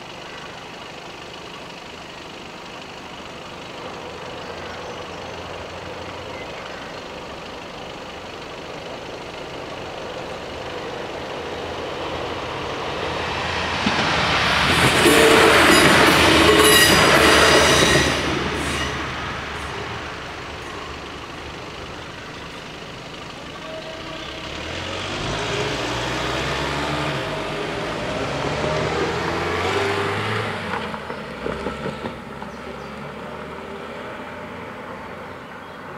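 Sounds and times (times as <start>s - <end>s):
cars rolling across: 0.0s - 35.9s
diesel railcar passing: 0.0s - 35.9s.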